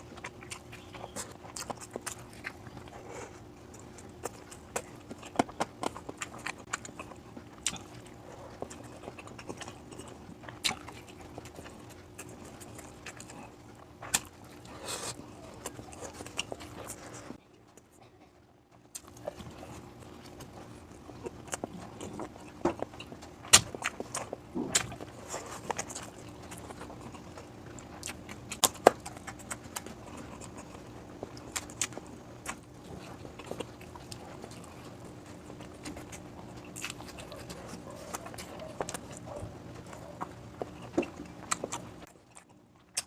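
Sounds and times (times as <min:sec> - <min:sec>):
faint steady hum: 0:00.0 - 0:43.0
person chewing: 0:00.0 - 0:43.0.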